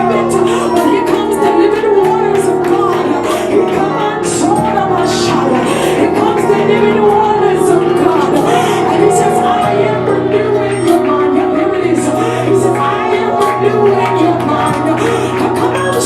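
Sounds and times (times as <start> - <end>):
held keyboard chords: 0.0 - 16.0
voices singing: 0.0 - 16.0.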